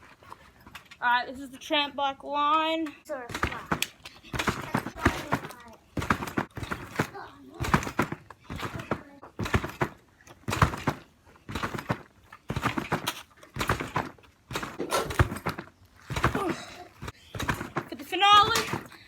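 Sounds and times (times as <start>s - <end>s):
bike thudding on trampoline: 0.0s - 1.8s, 2.4s - 19.0s.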